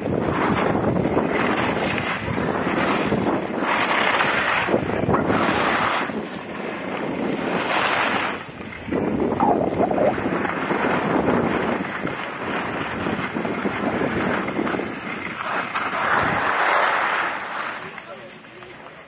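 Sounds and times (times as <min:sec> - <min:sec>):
wind rushing over microphone: 0:00.0 - 0:17.9
skis scraping over packed snow: 0:00.0 - 0:19.0.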